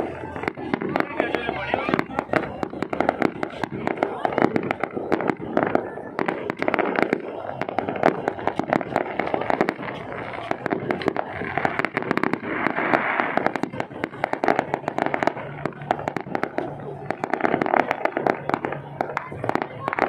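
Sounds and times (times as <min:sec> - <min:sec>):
crowd voices: 0:00.0 - 0:20.0
fireworks cracking and popping: 0:00.0 - 0:20.0
fireworks rumble: 0:00.0 - 0:20.0.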